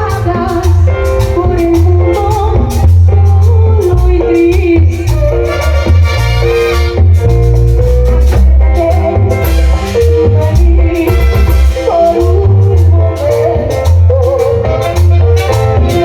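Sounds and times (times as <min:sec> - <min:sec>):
drum kit: 0:00.0 - 0:16.0
heavy bass: 0:00.0 - 0:16.0
live latin dance band: 0:00.0 - 0:16.0.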